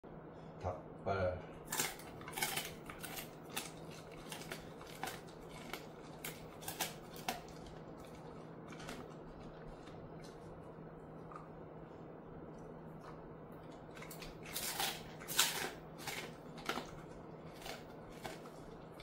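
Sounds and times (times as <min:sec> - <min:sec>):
dog crunching bones: 0:01.6 - 0:11.7, 0:12.4 - 0:19.0.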